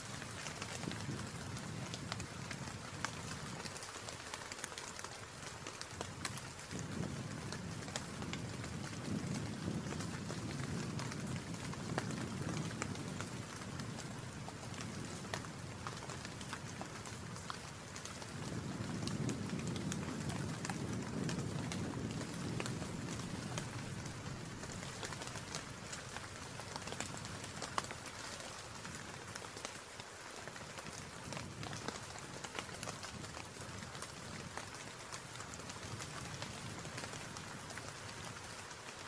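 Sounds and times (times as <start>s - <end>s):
raindrops ticking on hard surface: 0.0s - 39.0s.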